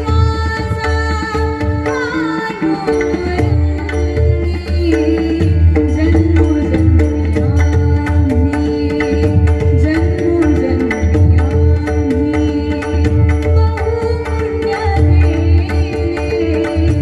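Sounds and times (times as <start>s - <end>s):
pakhawaj and tabla rhythm: 0.0s - 17.0s.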